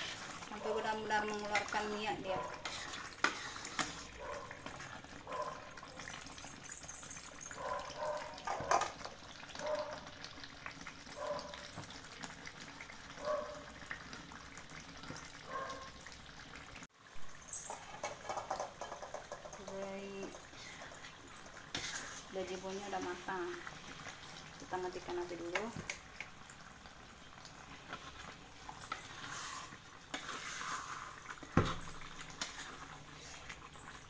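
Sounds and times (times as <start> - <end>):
curry bubbling in a wok: 0.0 - 34.0.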